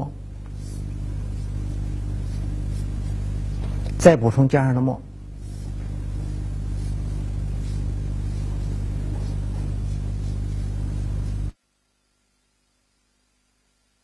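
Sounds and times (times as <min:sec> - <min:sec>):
buzzy electrical hum: 0:00.0 - 0:14.0.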